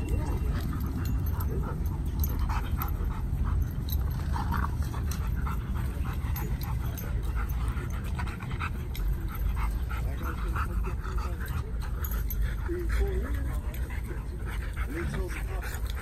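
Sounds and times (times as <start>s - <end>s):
dog panting: 0.0s - 16.0s
steady low rumble: 0.0s - 16.0s.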